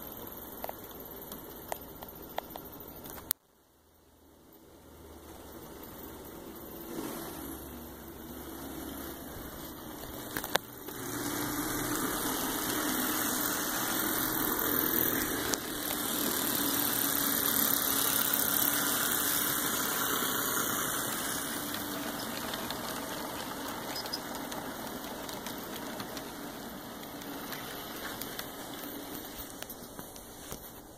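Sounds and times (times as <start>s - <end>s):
model train running on track: 5.2s - 30.6s.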